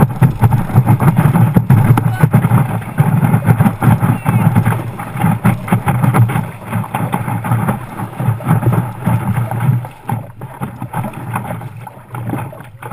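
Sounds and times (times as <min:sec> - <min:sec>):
water rushing and splashing: 0:00.0 - 0:12.9
wind on the microphone: 0:00.0 - 0:12.9.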